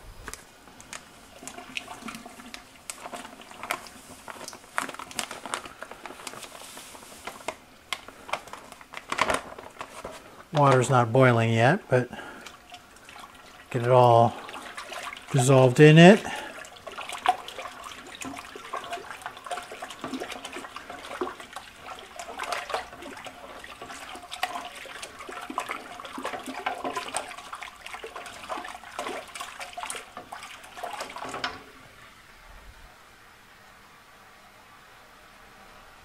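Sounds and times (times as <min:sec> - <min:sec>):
water sloshing in a pot: 0:00.5 - 0:32.1.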